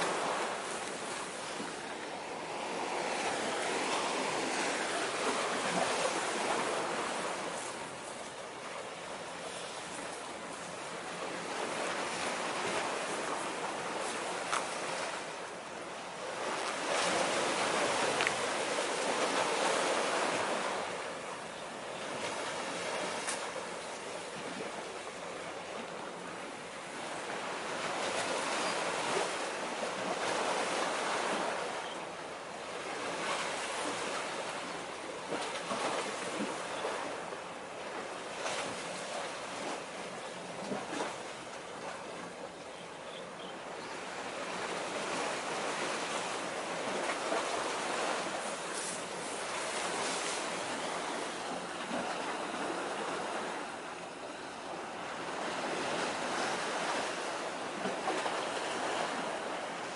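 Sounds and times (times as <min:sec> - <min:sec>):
waves washing against breakwater: 0:00.0 - 0:42.5, 0:44.0 - 0:59.9
wind: 0:00.0 - 0:59.9.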